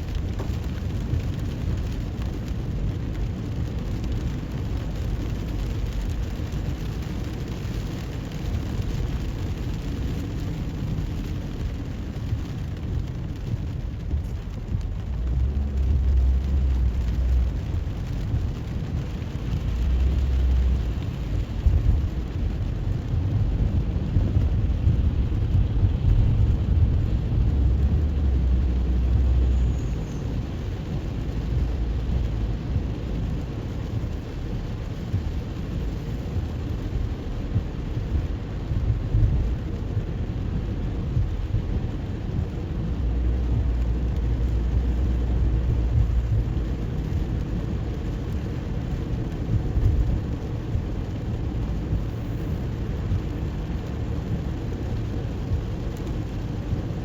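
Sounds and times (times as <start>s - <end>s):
rain hiss: 0.0s - 57.0s
tyres and engine rumble: 0.0s - 57.0s.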